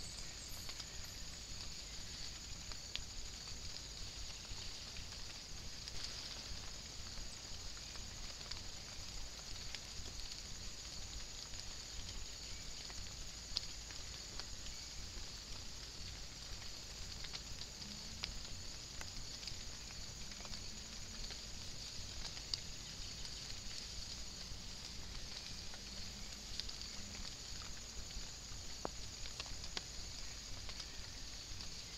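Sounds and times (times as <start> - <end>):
light rain hiss: 0.0 - 31.9
raindrop ticks: 0.0 - 31.9.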